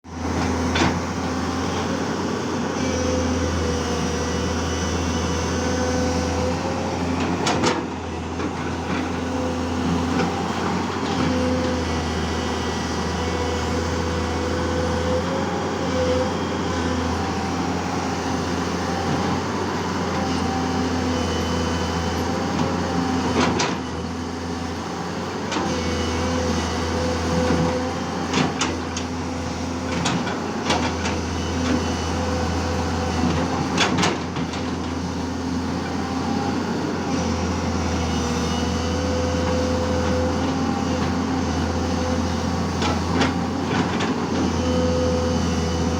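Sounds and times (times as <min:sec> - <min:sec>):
engine whine: 0:00.0 - 0:45.9
excavator diesel engine running: 0:00.0 - 0:45.9.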